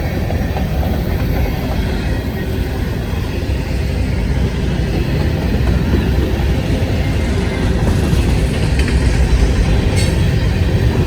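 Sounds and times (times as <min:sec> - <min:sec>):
train passing close by: 0:00.0 - 0:11.0.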